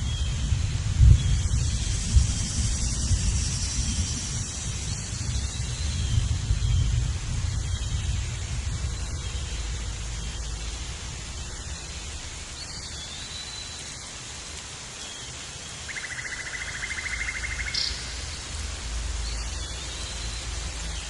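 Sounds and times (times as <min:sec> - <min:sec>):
wind and water rushing around boat: 0:00.0 - 0:21.0.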